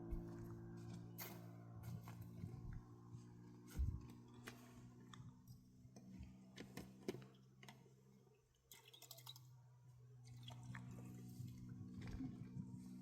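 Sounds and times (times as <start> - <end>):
low steady hum: 0.0 - 6.8, 7.7 - 13.0.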